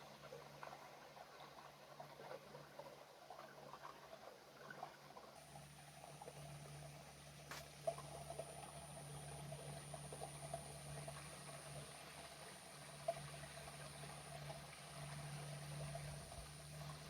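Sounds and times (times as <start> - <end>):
steady low hum: 0.0 - 17.0
water splashing and trickling: 0.0 - 17.0.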